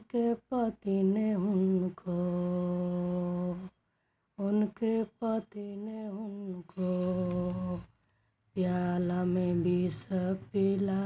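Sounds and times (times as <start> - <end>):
woman singing unaccompanied: 0.0 - 3.8, 4.4 - 11.0.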